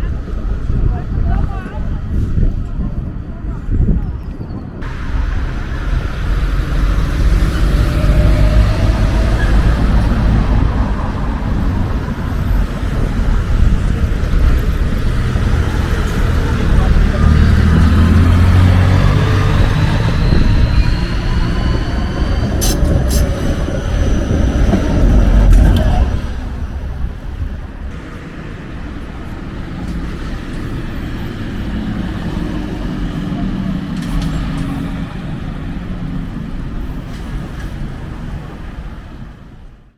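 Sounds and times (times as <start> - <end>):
tram rumbling: 0.0 - 39.9.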